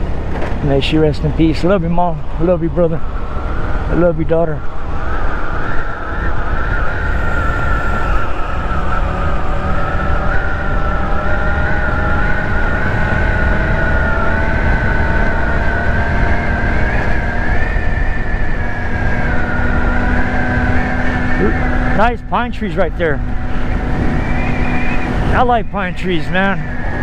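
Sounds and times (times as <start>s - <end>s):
scooter engine cruising: 0.0s - 27.0s.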